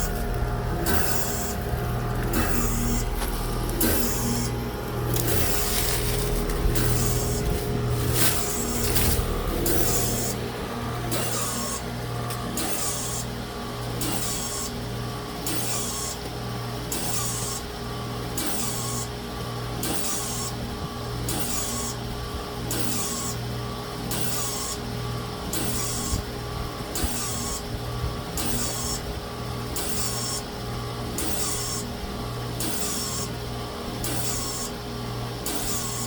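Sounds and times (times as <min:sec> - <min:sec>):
heat pump pulsing hum and hiss: 0:00.0 - 0:36.0.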